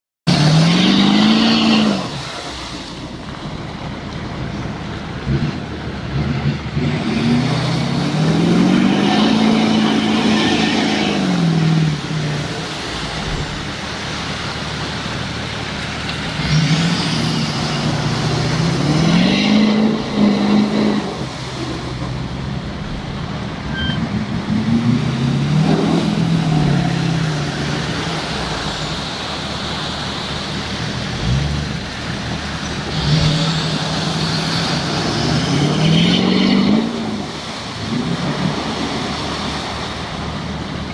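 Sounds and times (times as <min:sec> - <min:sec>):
truck engine revving: 0:00.3 - 0:40.9
tyres churning mud: 0:00.3 - 0:40.9.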